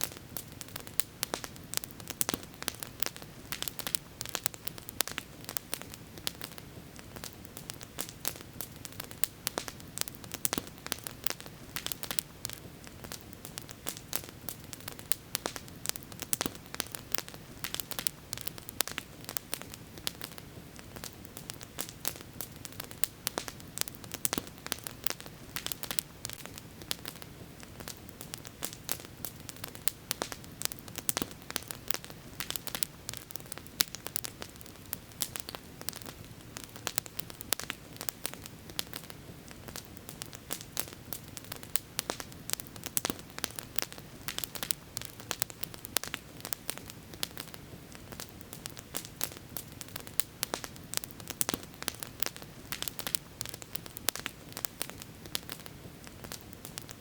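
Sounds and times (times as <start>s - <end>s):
campfire crackling and popping: 0.0s - 57.0s
low hiss of burning fire: 0.0s - 57.0s.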